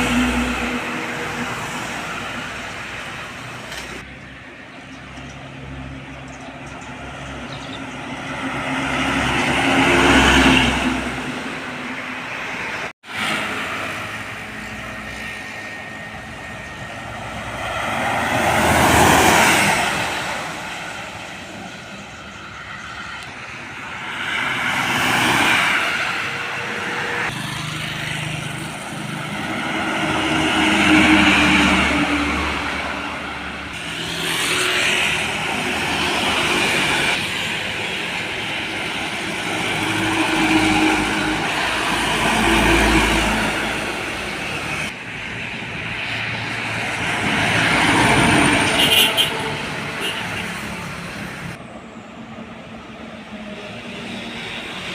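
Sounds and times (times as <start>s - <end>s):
road vehicles passing by: 0.0s - 54.9s.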